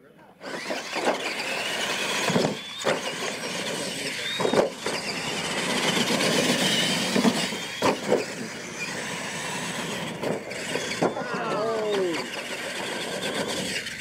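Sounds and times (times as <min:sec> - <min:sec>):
toy truck motors whining: 0:00.3 - 0:14.0
tyres on dirt: 0:00.4 - 0:14.0.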